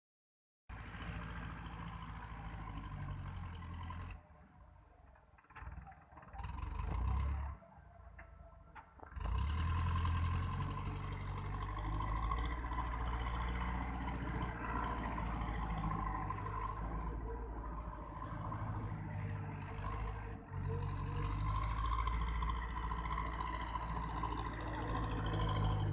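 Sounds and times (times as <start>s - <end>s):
tractor diesel engine running: 0.7s - 25.9s.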